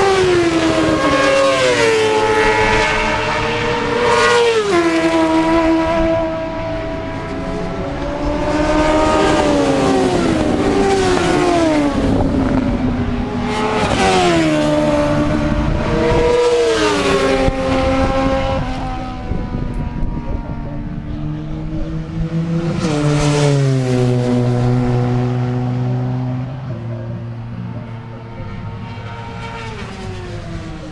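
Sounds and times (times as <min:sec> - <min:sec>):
motorcycles passing at speed: 0:00.0 - 0:30.9.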